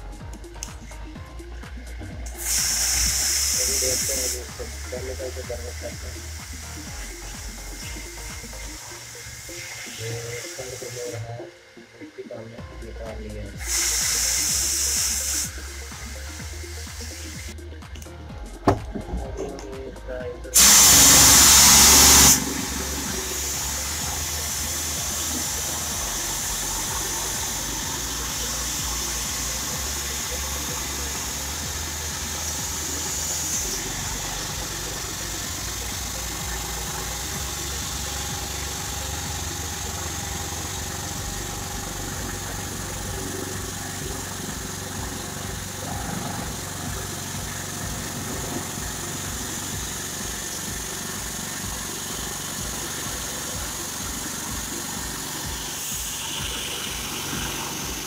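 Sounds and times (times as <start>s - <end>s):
water jet hissing: 0.0s - 17.8s, 20.5s - 58.0s
pressure washer pump humming: 0.0s - 58.0s.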